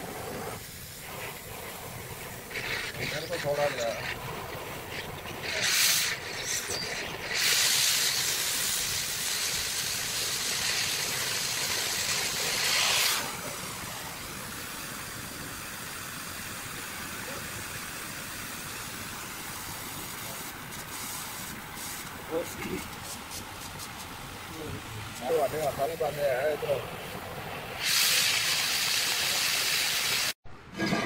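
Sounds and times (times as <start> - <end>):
gas torch hissing: 0.0 - 30.4.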